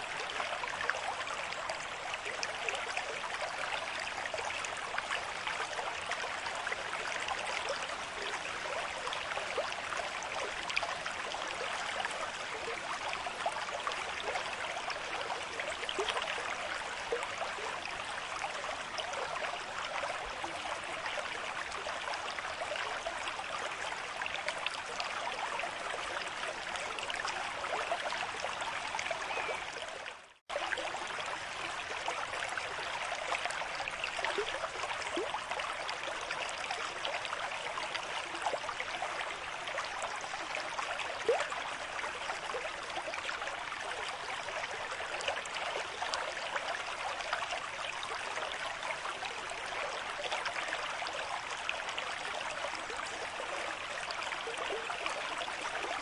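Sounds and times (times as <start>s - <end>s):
stream rushing and trickling: 0.0s - 56.0s.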